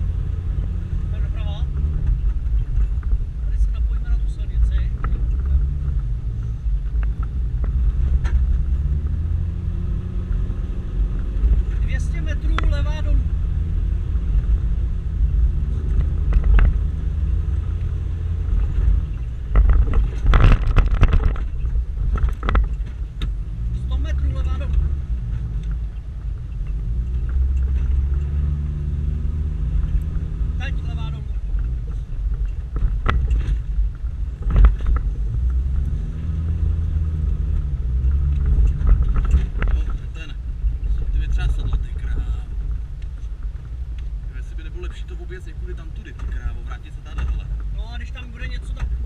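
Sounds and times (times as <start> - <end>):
body and suspension rattles: 0.0 - 49.0
engine and drivetrain rumble: 0.0 - 49.0.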